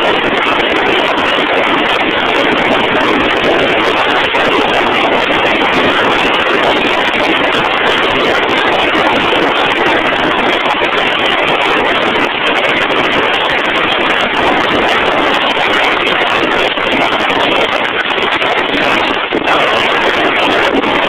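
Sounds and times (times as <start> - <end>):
drill rig machinery running: 0.0 - 21.0.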